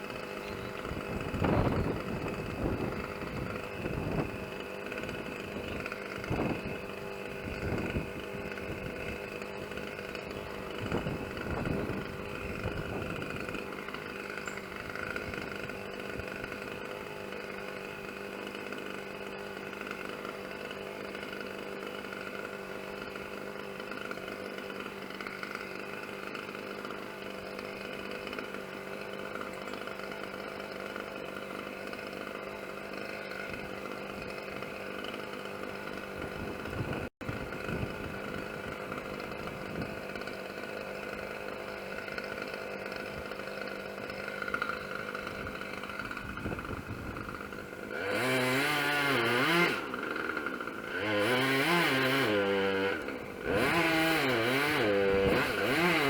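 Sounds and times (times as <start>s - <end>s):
chainsaw idling and revving: 0.0s - 56.0s.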